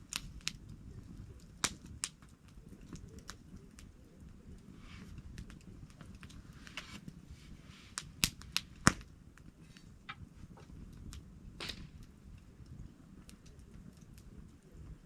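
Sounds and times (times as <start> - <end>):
sharp pops of fire: 0.0 - 7.2, 7.9 - 15.0
campfire crackling: 0.0 - 15.0
low rumble of flame: 0.0 - 15.0.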